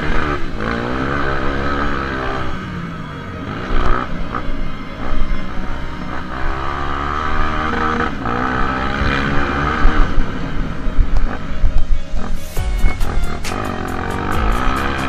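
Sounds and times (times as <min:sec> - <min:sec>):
motorcycle engine revving: 0:00.0 - 0:15.0
track rumble: 0:00.0 - 0:15.0.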